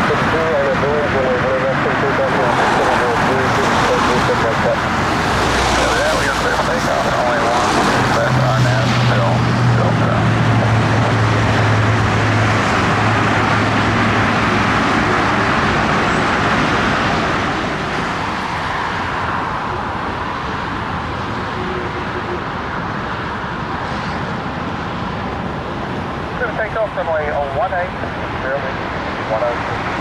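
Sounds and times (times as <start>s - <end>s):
jet airliner engine noise: 0.0s - 30.0s.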